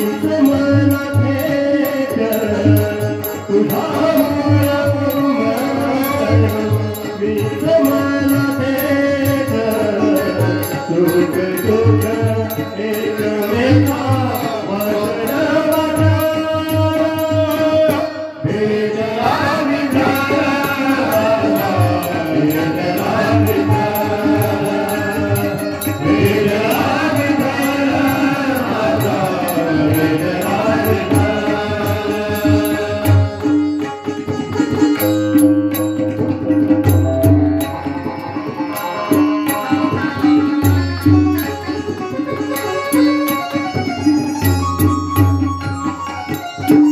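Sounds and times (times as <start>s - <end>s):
man singing: 0.0s - 44.7s
tabla: 0.0s - 46.9s.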